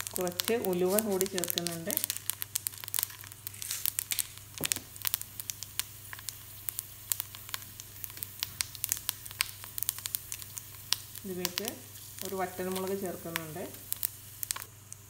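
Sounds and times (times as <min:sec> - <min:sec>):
oil sizzling in a frying pan: 0:00.0 - 0:15.0
seeds spluttering in sharp pops: 0:00.0 - 0:15.0.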